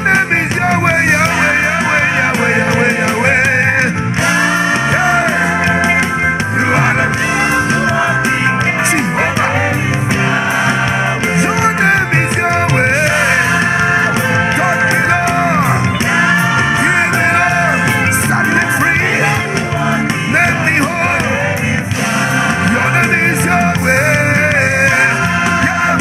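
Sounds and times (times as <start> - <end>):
band playing: 0.0 - 26.0
voices singing: 0.0 - 26.0.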